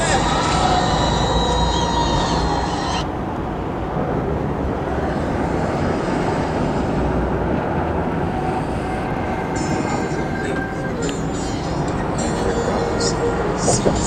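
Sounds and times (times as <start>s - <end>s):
car interior road noise: 0.0s - 14.0s.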